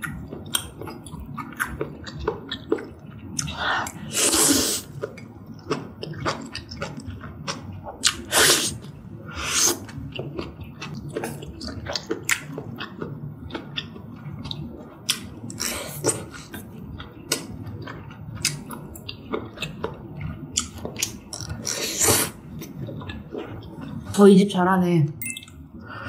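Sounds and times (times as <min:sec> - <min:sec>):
wet mouth chewing sounds: 0:00.0 - 0:24.2.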